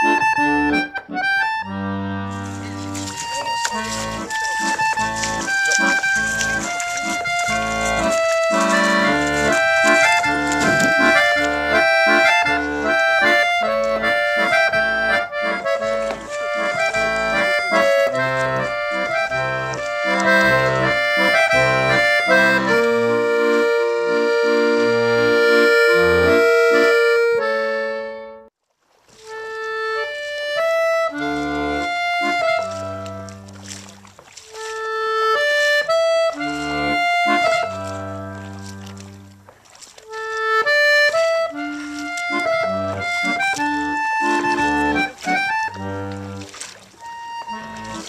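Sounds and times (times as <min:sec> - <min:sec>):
instrumental background music: 0:00.0 - 0:28.5, 0:29.3 - 0:39.4, 0:40.1 - 0:48.0.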